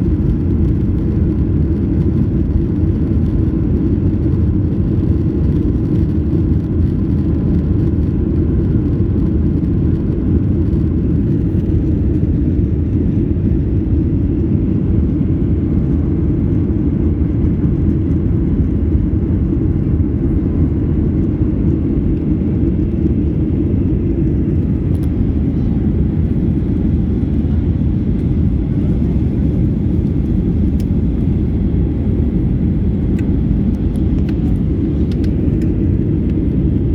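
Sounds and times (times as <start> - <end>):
jet engine rumble and airflow: 0.0 - 36.9.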